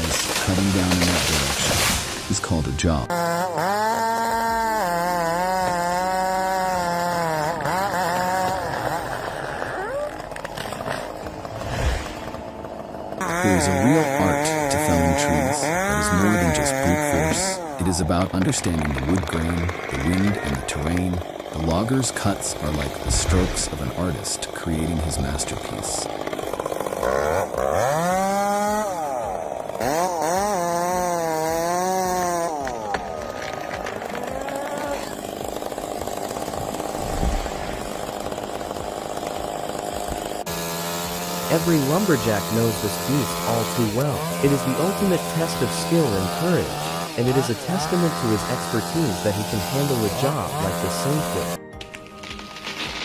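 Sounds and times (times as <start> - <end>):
chainsaw cutting at high revs: 0.0 - 53.0.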